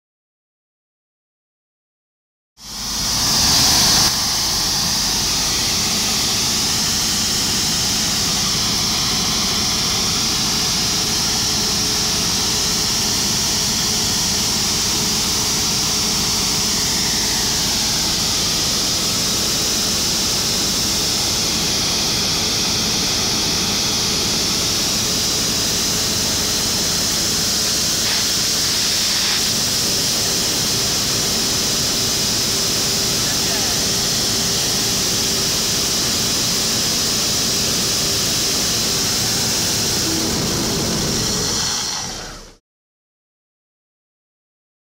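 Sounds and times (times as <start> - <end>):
high-pressure water jet hissing: 2.6 - 42.5
diesel engine drone: 2.6 - 42.6.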